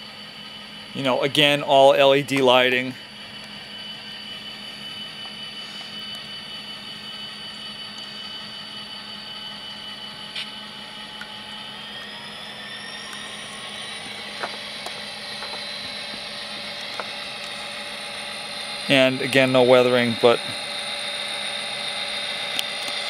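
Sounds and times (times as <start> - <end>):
diesel engine sound from small speaker: 0.0 - 23.0
high whine: 0.0 - 23.0.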